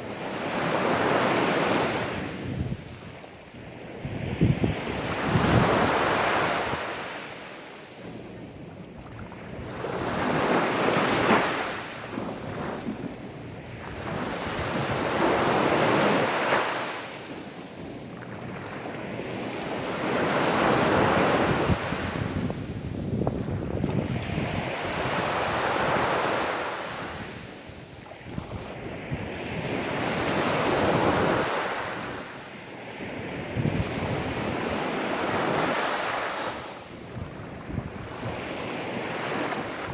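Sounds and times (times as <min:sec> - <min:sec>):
sea waves washing on sand: 0:00.0 - 0:39.9.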